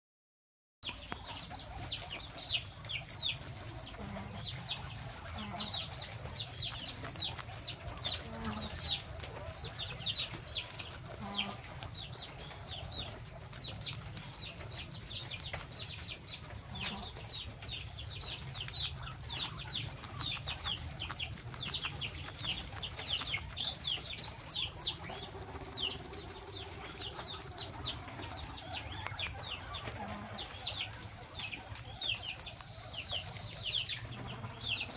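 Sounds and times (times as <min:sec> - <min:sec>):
high-pitched peeping calls: 0:00.8 - 0:34.9.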